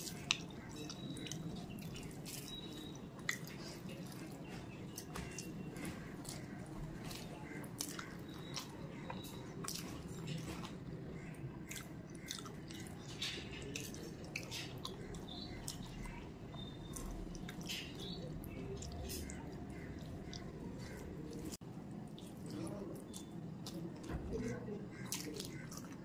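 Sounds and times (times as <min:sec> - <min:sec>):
person chewing food: 0:00.0 - 0:24.1, 0:24.9 - 0:26.0.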